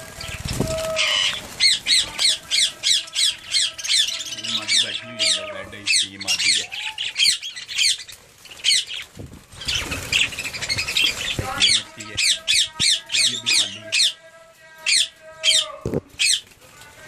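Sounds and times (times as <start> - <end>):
budgerigars squawking: 0.2 - 14.2.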